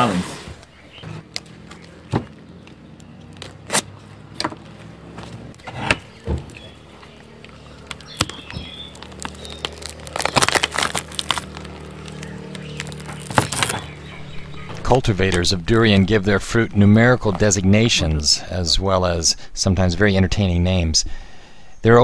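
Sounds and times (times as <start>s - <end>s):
steady low hum: 0.5s - 19.5s.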